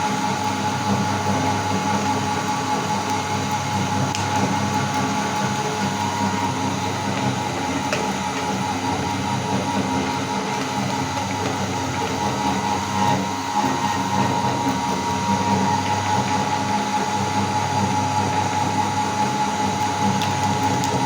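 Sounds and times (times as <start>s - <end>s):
electric grinder motor whining: 0.0s - 21.0s.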